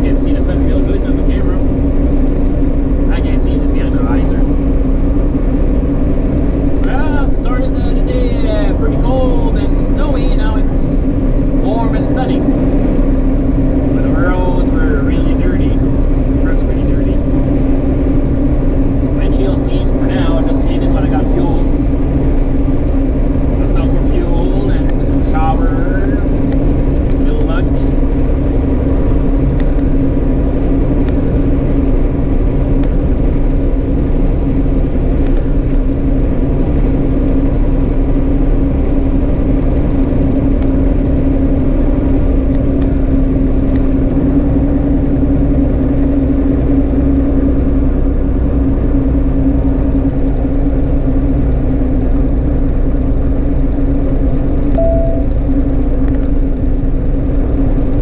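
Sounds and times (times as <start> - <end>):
diesel engine drone: 0.0 - 58.0
road and wind rumble: 0.0 - 58.0.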